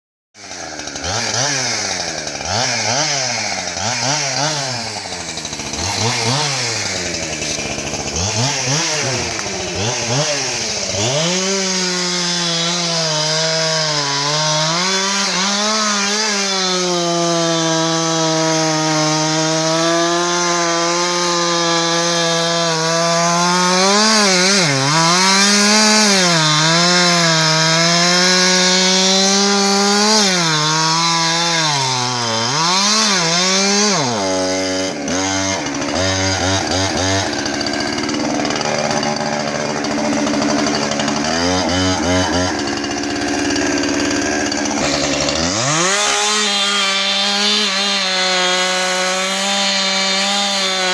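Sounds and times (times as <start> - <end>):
chainsaw revving: 0.4 - 50.9.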